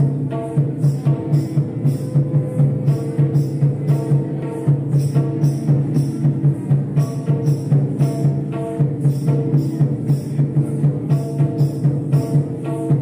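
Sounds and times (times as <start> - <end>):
hand-beaten barrel drum: 0.0 - 13.0.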